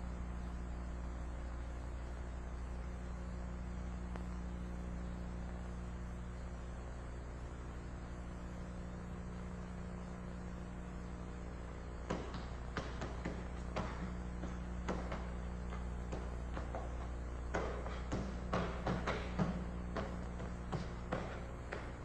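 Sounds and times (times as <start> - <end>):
electrical hum: 0.0 - 22.0
tape hiss: 0.0 - 22.0.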